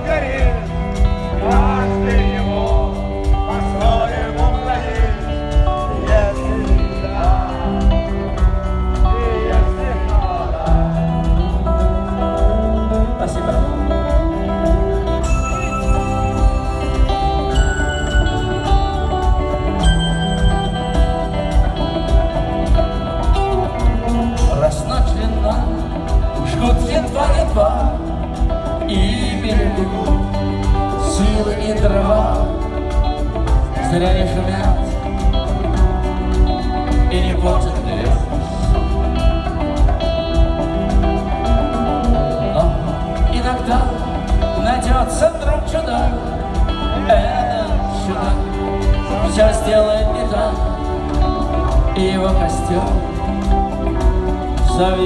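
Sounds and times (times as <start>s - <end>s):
gliding melodic lead line: 0.0s - 55.0s
rock band playing: 0.0s - 55.0s.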